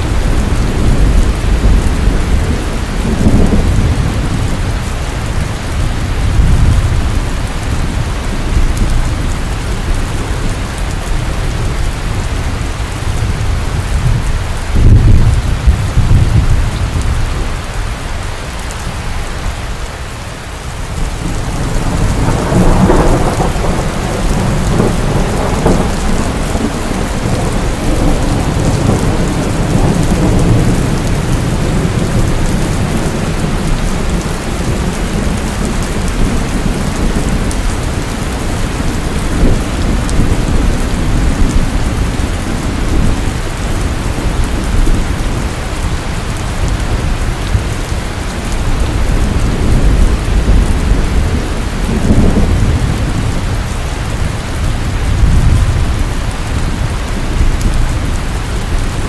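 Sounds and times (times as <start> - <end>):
thunder rumbling: 0.0 - 19.8, 20.5 - 59.0
heavy rain falling: 0.0 - 59.0.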